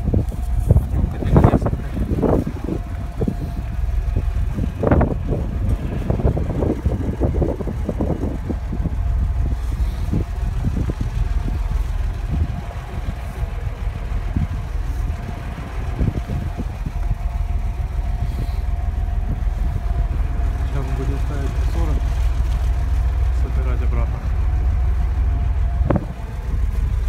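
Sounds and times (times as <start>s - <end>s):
faint steady hum: 0.0s - 27.0s
truck engine idling: 0.0s - 27.0s.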